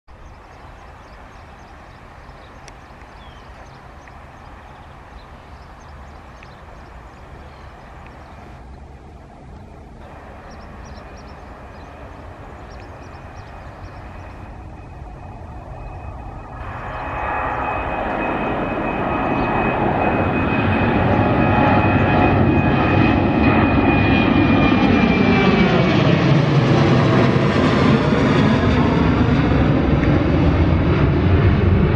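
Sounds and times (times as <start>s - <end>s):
jet engines at takeoff thrust: 0.1s - 31.9s
high steady engine whine: 0.2s - 31.9s.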